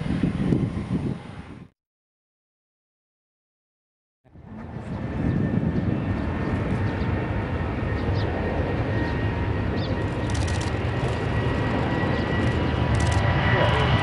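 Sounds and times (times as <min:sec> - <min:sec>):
jet engines rumbling and whining: 0:00.0 - 0:01.8, 0:04.3 - 0:14.0.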